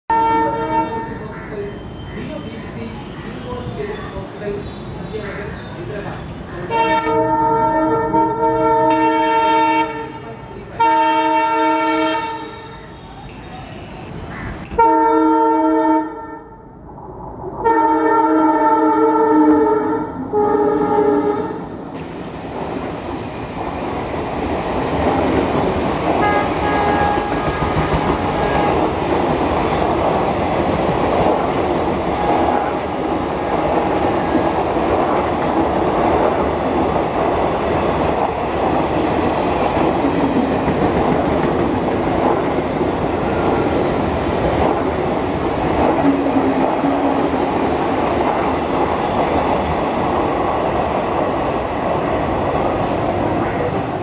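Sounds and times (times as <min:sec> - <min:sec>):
train coaches rolling past: 0:00.1 - 0:54.0.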